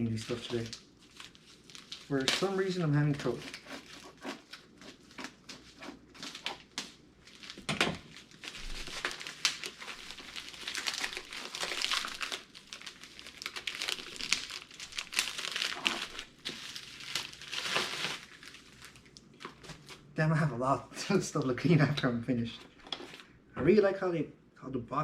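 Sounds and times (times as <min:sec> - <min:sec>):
packing material crinkling and tearing: 0:00.0 - 0:20.1.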